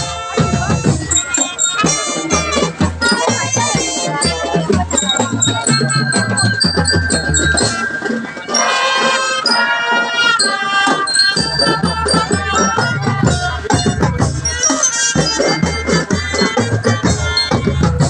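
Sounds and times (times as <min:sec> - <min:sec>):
bass drums beat: 0:00.0 - 0:08.5, 0:11.0 - 0:18.0
melodicas and brass horns melody: 0:00.0 - 0:18.0.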